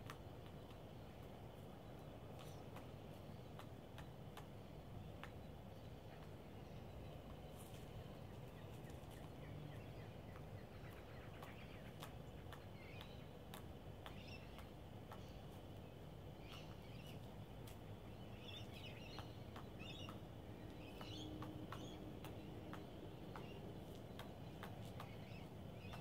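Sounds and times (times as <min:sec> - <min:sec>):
low background hum: 0:00.0 - 0:26.0
small birds chirping: 0:00.0 - 0:26.0.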